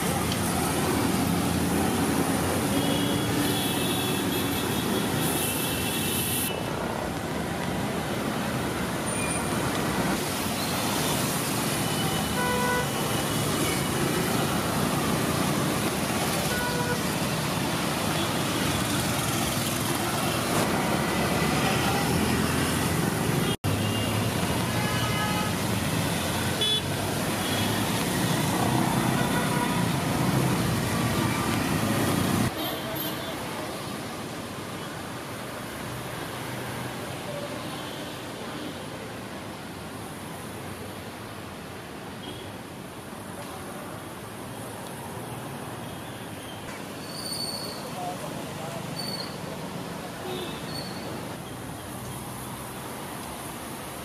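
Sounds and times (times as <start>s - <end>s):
road traffic on wet street: 0.0s - 54.0s.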